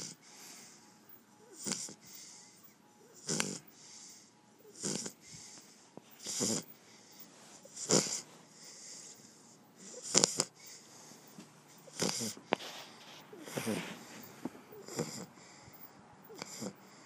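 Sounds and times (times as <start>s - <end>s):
dog snoring: 0.0s - 0.8s, 1.4s - 17.0s
wheezy breaths: 0.0s - 17.0s.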